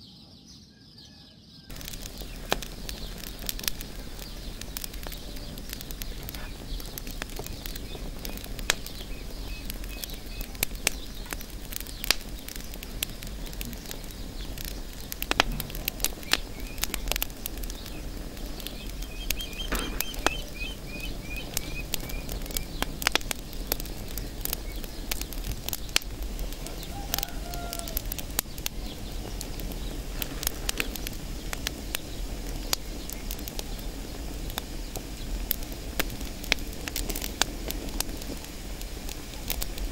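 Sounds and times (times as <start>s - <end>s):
faint birds chirping: 0.0s - 39.9s
straw burning with crackles and pops: 1.7s - 39.9s.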